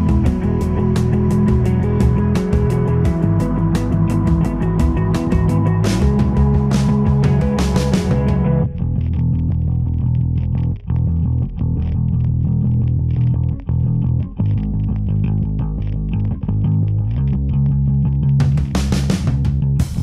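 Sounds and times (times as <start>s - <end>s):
bass and guitar music with beat: 0.0s - 20.0s.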